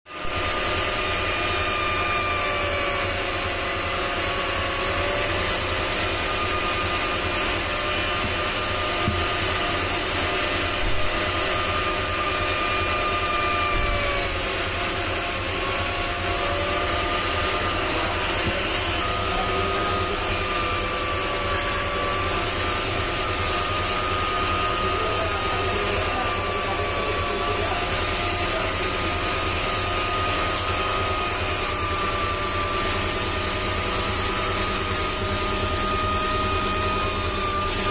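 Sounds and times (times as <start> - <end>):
rotary tool whining on metal: 0.1 - 37.9.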